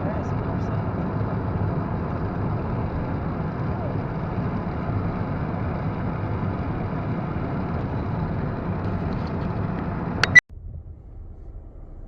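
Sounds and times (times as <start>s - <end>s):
car driving rumble inside cabin: 0.0s - 10.4s
sharp clicks: 0.7s - 10.4s.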